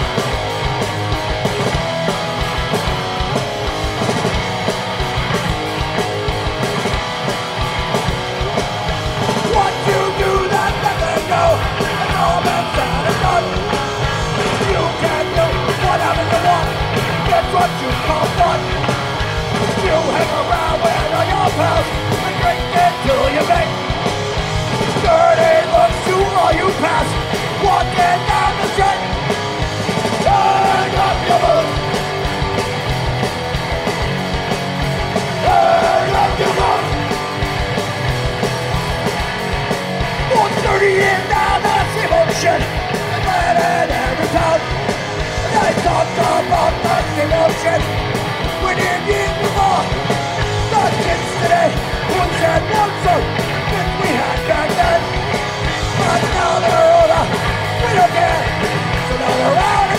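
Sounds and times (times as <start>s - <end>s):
punk band playing live: 0.0s - 59.9s.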